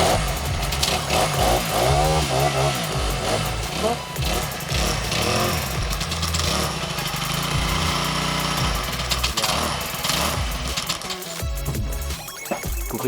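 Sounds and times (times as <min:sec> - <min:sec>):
string trimmer engine revving: 0:00.0 - 0:12.1.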